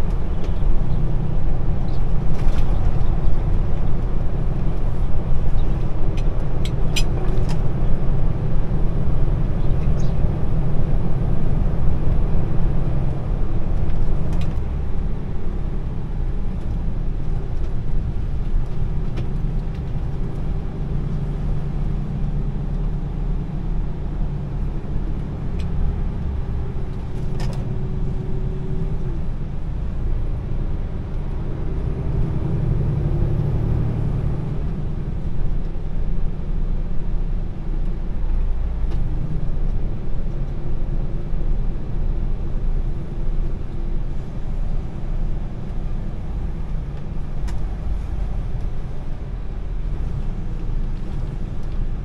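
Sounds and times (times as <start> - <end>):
low road rumble: 0.0 - 52.0.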